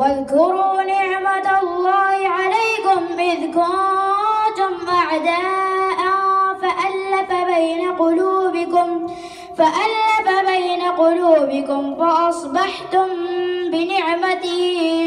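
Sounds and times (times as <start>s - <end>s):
boy chanting into microphone: 0.0s - 15.0s.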